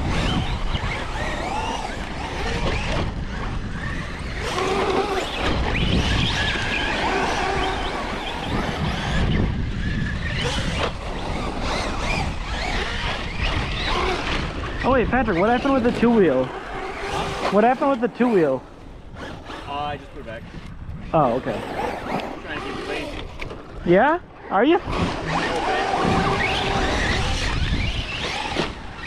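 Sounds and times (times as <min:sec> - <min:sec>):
electric motors whining: 0:00.0 - 0:29.0
wind rumbling on microphone: 0:00.0 - 0:29.0.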